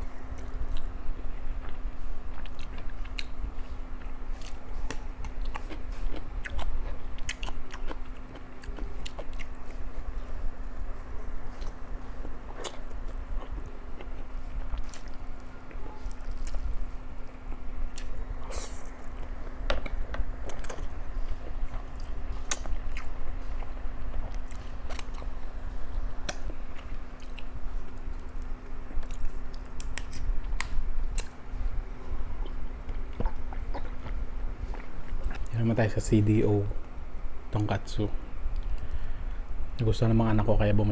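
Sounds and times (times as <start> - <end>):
steady low hum: 0.0 - 40.9
person chewing noodles: 0.3 - 35.5.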